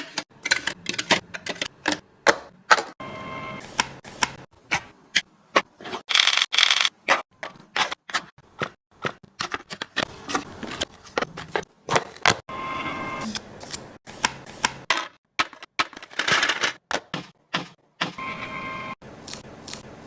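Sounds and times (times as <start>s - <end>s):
groceries clacking and knocking: 0.0s - 3.0s, 3.8s - 12.5s, 13.6s - 18.2s.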